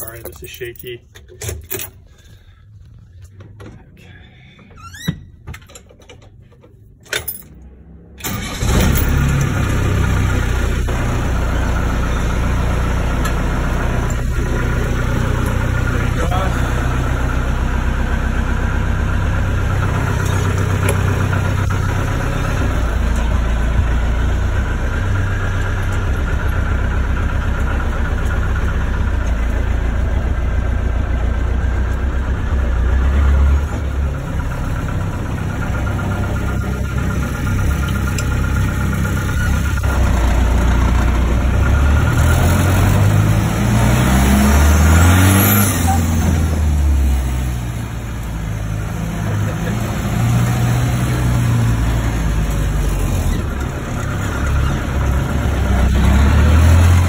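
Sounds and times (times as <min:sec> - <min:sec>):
diesel engine idling: 0:00.0 - 0:04.8, 0:06.4 - 0:57.0
diesel engine revving: 0:07.3 - 0:57.0.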